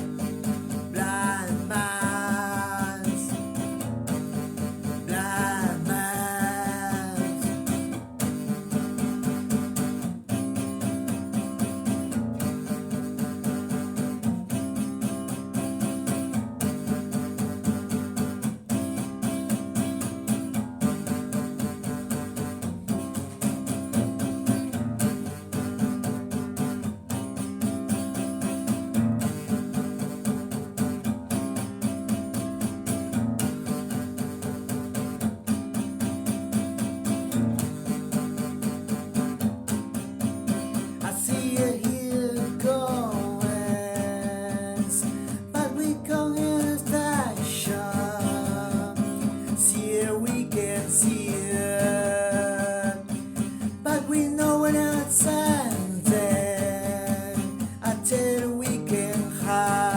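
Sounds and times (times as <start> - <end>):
rock guitar strumming chords: 0.0 - 59.9.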